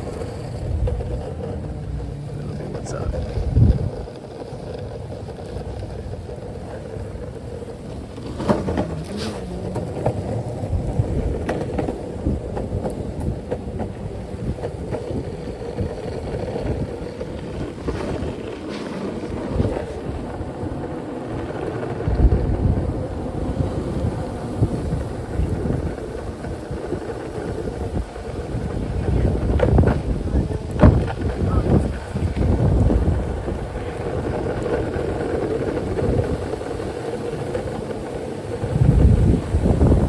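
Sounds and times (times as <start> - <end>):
skateboard clacks: 0.0 - 40.0
skateboard wheels rolling on pavement: 0.0 - 40.0
wind on microphone: 0.0 - 40.0.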